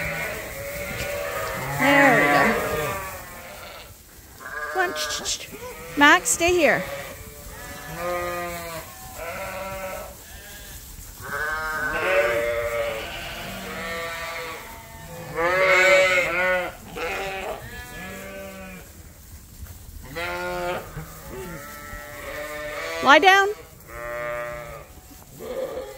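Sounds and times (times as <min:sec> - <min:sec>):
sheep bleating: 0:00.0 - 0:18.8, 0:20.1 - 0:25.9.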